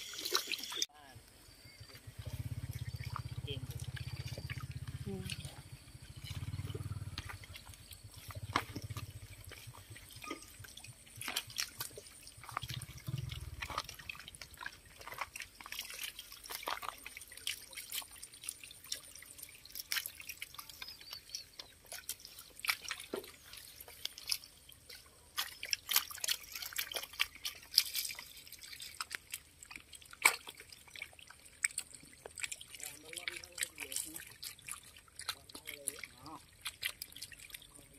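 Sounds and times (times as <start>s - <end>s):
fish thrashing in shallow water: 0.0s - 0.9s, 1.5s - 37.9s.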